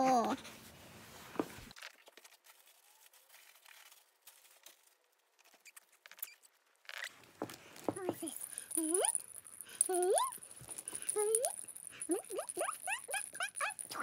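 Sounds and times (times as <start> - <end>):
small clicks and rustles: 1.5 - 14.0.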